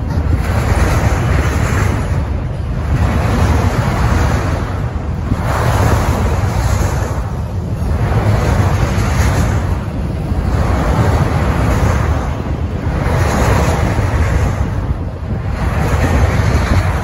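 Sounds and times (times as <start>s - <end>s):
freight train wheels rumbling: 0.0s - 17.0s
wind noise on microphone: 0.0s - 17.0s.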